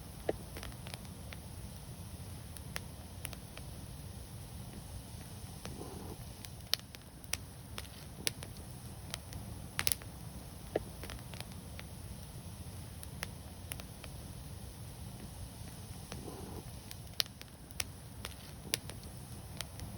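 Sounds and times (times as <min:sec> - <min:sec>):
fire crackles and pops: 0:00.0 - 0:19.9
wood fire rumbling and hissing: 0:00.0 - 0:19.9.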